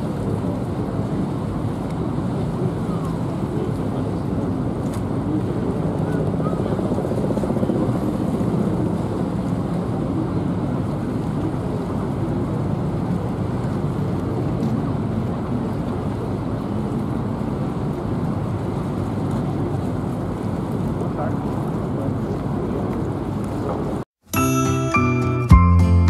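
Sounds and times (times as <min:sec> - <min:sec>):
boat engines: 0:00.0 - 0:24.0
wind buffeting microphone: 0:00.0 - 0:24.0.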